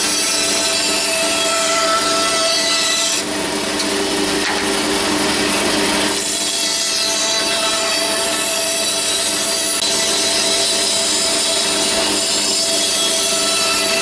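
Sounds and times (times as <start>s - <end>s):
bandsaw humming: 0.0s - 14.0s.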